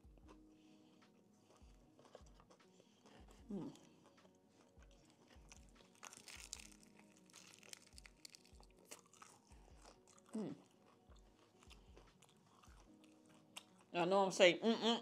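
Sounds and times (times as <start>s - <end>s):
crispy food crunching when chewed: 1.4s - 13.9s.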